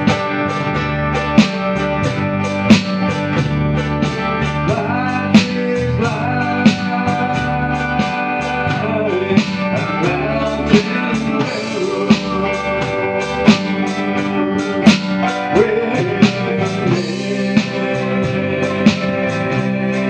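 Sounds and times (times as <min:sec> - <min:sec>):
country gospel band playing: 0:00.0 - 0:20.0
sliding melody line: 0:00.0 - 0:20.0.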